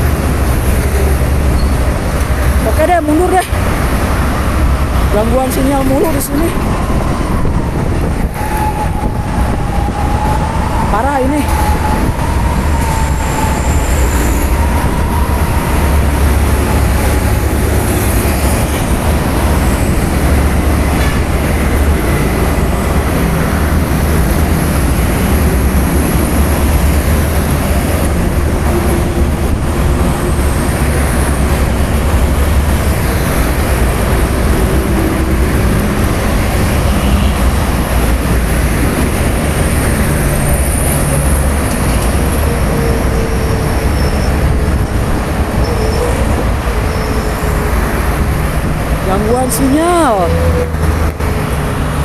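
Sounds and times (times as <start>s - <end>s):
heavy road traffic rumble: 0.0s - 52.0s.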